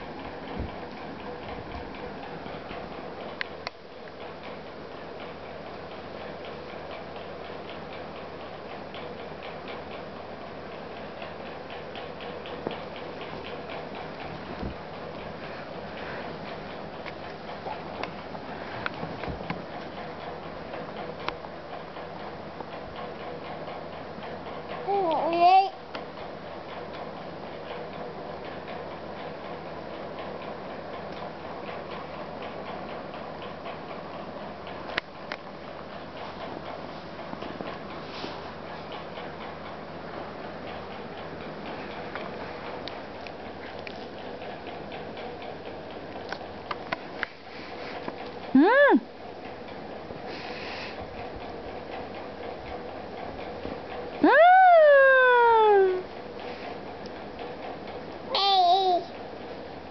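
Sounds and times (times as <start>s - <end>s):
room noise: 0.0s - 59.9s.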